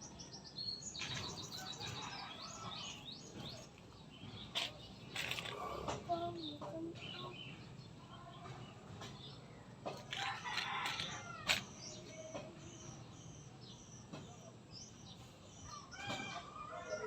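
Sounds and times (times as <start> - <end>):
bird chirping: 0.0 - 16.1.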